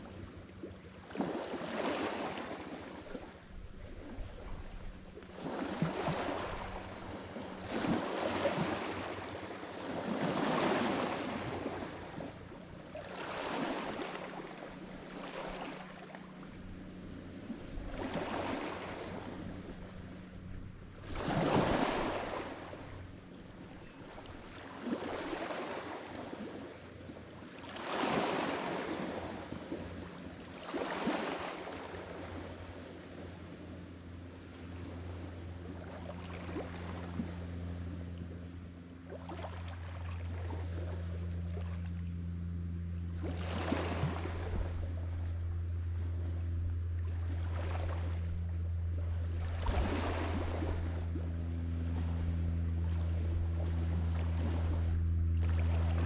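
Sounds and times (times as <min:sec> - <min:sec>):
steady low hum: 0:00.0 - 0:56.0
waves breaking on shore: 0:00.0 - 0:56.0.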